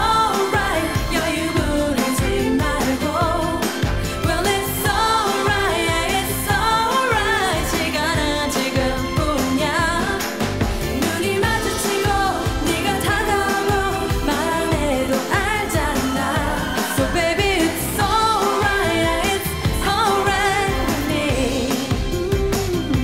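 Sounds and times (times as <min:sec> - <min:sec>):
person singing: 0:00.0 - 0:23.0
pop backing track with beat: 0:00.0 - 0:23.0.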